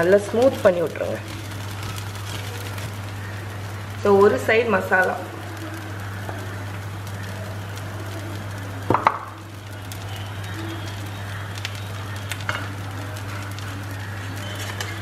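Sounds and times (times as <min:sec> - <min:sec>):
faint sizzle on a griddle: 0:00.0 - 0:15.0.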